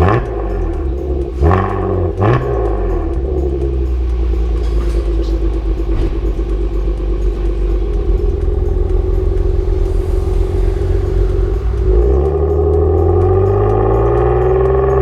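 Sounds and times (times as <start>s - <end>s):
car exhaust deep tone: 0.0s - 15.0s.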